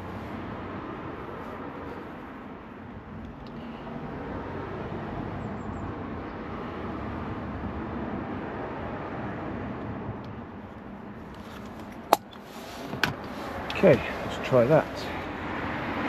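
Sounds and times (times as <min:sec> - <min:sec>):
rumbling outdoor background noise: 0:00.0 - 0:16.0.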